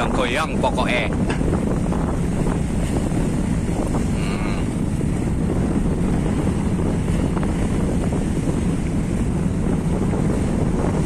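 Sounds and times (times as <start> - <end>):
rough sea and breaking waves: 0.0 - 11.0
wind buffeting microphone: 0.0 - 11.0.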